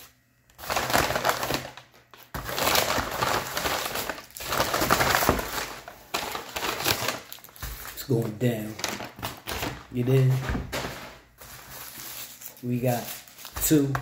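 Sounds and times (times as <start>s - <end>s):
paper bag and wrappers rustling: 0.0s - 14.0s.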